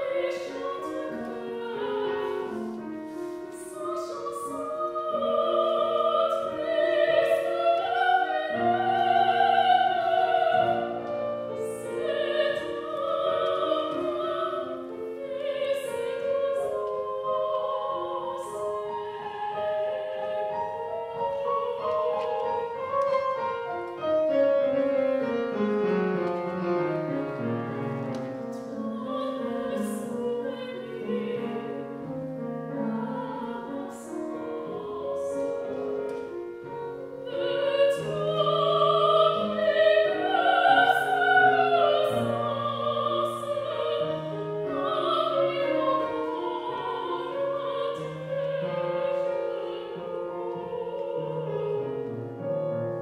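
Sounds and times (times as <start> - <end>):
grand piano accompaniment: 0.0 - 53.0
soprano singing: 0.0 - 53.0.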